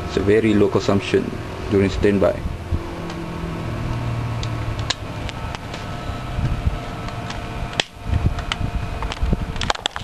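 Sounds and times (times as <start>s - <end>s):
inverter humming: 0.0s - 10.0s.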